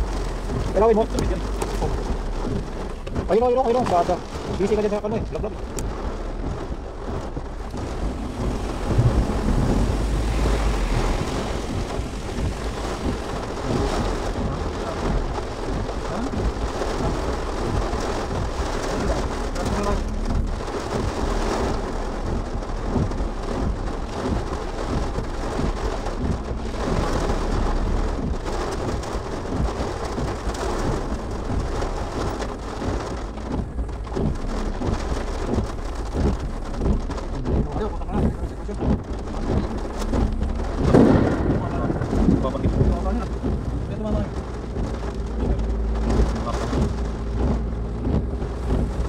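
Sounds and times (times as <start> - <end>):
heavy rain on car roof: 0.0 - 49.0.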